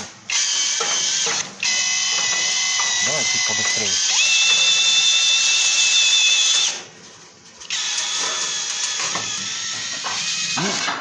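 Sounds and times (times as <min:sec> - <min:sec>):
drill motor whine: 0:00.3 - 0:06.8, 0:07.7 - 0:11.0.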